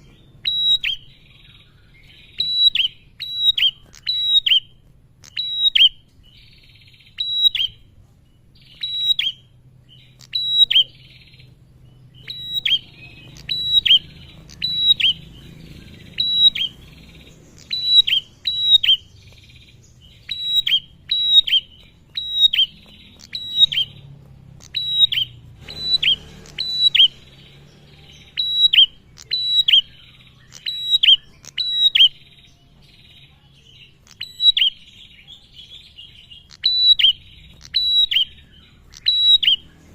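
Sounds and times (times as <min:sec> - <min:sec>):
bird calling sharp notes: 0:00.0 - 0:07.9, 0:08.5 - 0:39.9
faint low hum: 0:00.0 - 0:39.9.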